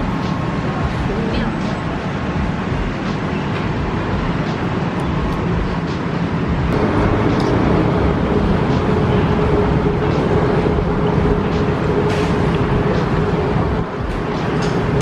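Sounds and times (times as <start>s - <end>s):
steady hum: 0.0s - 15.0s
vehicle engine rumbling: 0.0s - 15.0s.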